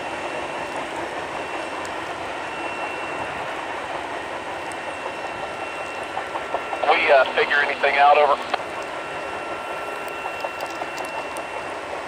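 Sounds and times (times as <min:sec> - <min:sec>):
high ringing tone: 0:00.0 - 0:12.0
train wheels rumbling on track: 0:00.0 - 0:12.0.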